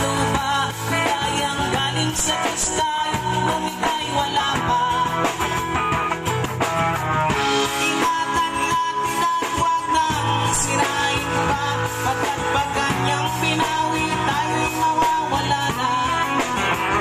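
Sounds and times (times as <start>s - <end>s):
guitar playing: 0.0s - 17.0s
held melody line: 0.0s - 17.0s.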